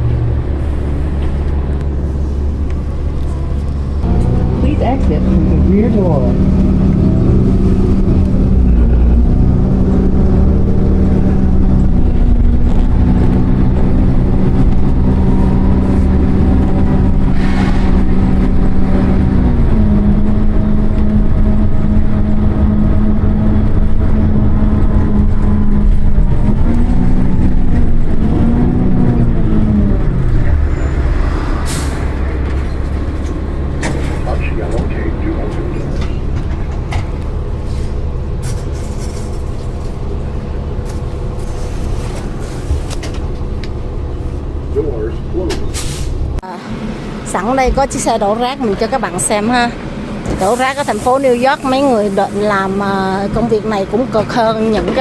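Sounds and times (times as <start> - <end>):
heavy vehicle engine drone: 0.0 - 55.0
low rumble: 0.0 - 55.0.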